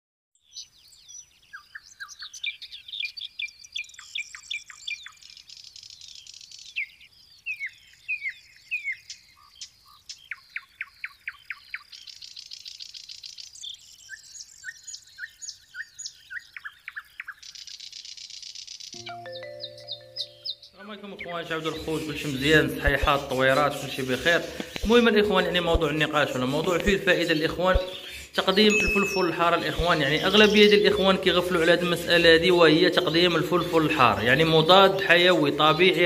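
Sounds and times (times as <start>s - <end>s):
songbird singing: 0.4s - 36.0s.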